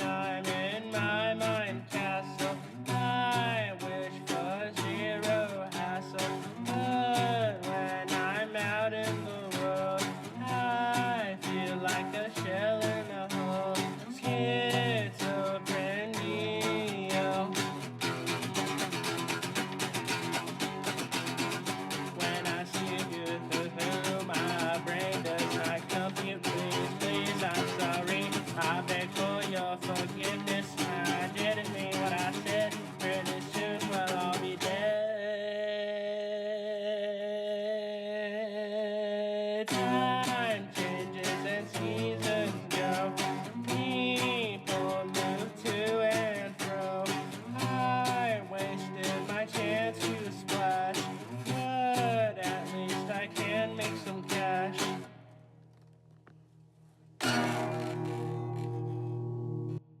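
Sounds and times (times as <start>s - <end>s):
person singing melody: 0.0s - 18.4s, 21.9s - 38.8s, 39.6s - 55.1s, 57.2s - 59.8s
guitar: 0.0s - 60.0s.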